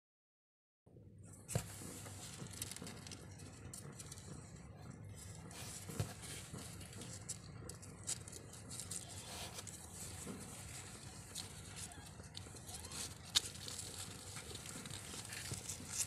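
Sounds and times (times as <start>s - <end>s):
kittens rustling and scratching: 1.3s - 16.0s.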